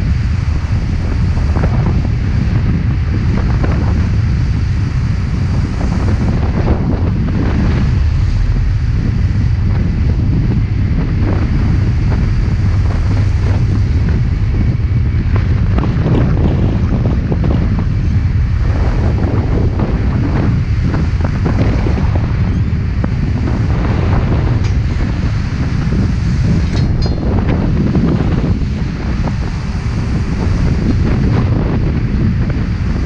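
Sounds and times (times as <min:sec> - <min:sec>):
waves washing: 0:00.0 - 0:33.0
wind buffeting microphone: 0:00.0 - 0:33.0.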